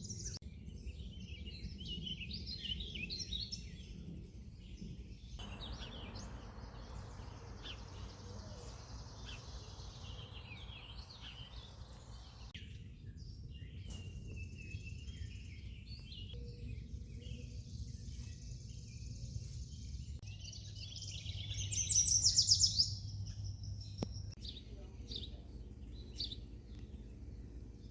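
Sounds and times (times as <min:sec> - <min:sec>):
loud rapid trilling birdsong: 0:00.0 - 0:27.9
songbirds singing and chirping: 0:00.0 - 0:27.9
steady low rumble: 0:03.6 - 0:27.9.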